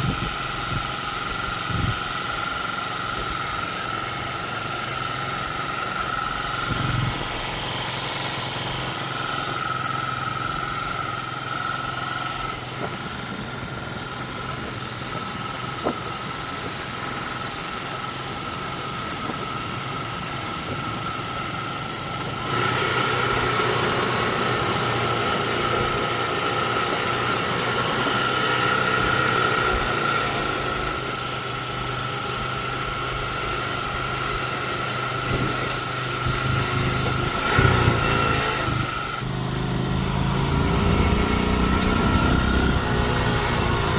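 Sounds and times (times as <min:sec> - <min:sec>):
engine humming with high whine: 0:00.0 - 0:43.9.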